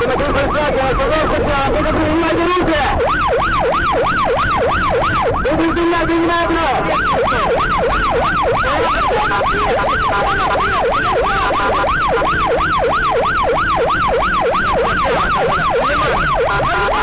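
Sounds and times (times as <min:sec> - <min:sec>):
siren fast yelp: 0:00.0 - 0:17.0.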